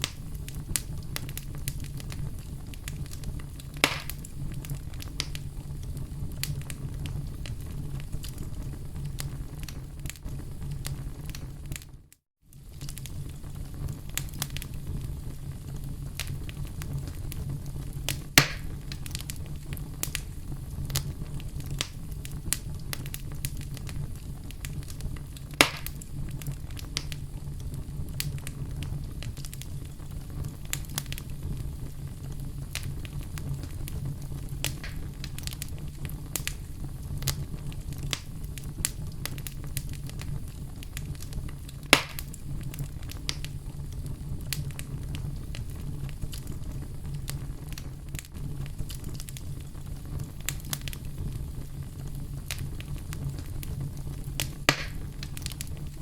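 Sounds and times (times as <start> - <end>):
campfire crackling: 0.0 - 56.0
loud fire pops: 0.0 - 56.0
low rumble of burning wood: 0.0 - 56.0.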